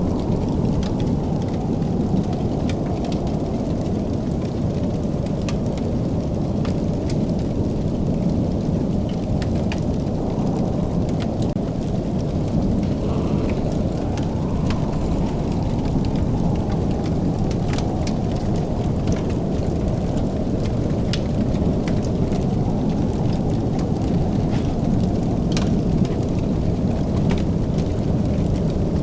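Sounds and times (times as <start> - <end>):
fire rushing rumble: 0.0 - 29.0
fire pops and snaps: 0.1 - 29.0.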